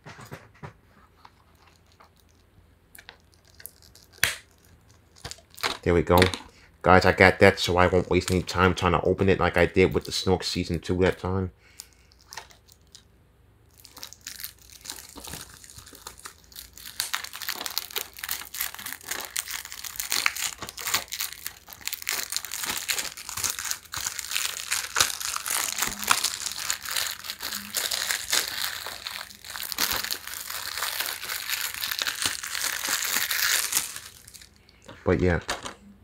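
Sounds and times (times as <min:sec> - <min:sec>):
plastic wrap crinkling: 0:01.2 - 0:08.8, 0:11.8 - 0:13.1, 0:13.7 - 0:35.8.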